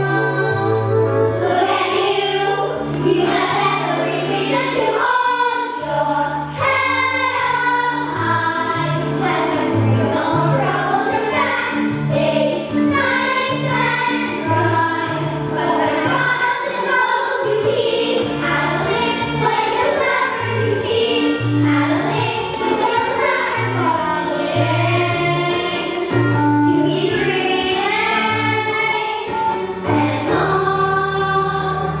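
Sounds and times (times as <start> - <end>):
chorus of young voices singing: 0.0 - 32.0
instrumental accompaniment: 0.0 - 32.0.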